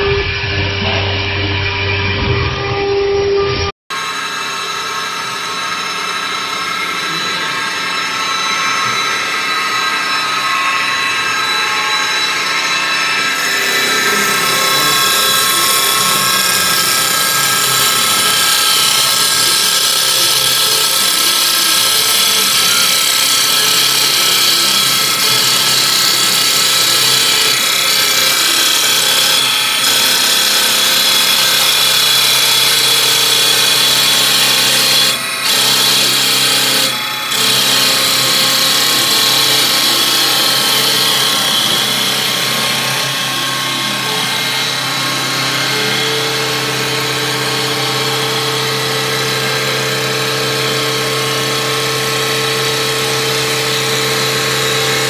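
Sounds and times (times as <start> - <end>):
lathe machine whine: 0.0 - 55.0
cutter hissing on wood: 4.0 - 49.8.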